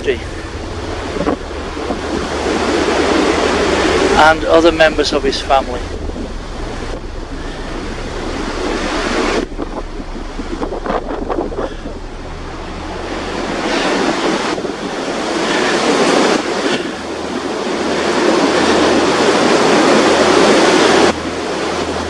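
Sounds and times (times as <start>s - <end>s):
gusty wind buffeting microphone: 0.0s - 22.0s.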